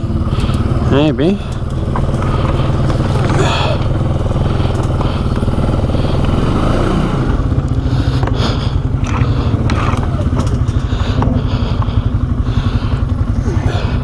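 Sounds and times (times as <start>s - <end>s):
atv engine running: 0.0s - 14.0s
vehicle pushing through brush: 0.0s - 14.0s.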